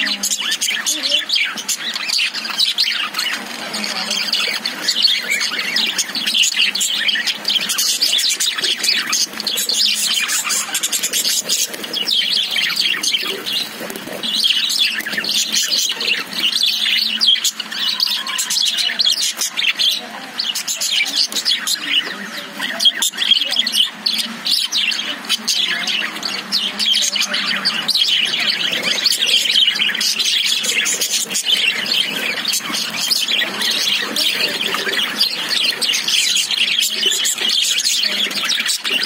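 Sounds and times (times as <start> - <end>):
budgerigars chirping: 0.0 - 39.0.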